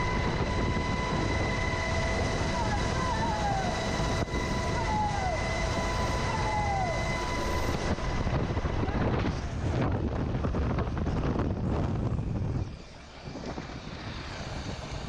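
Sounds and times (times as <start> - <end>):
helicopter turbine whine and rotor: 0.0 - 15.0
wind rushing over microphone: 0.0 - 15.0.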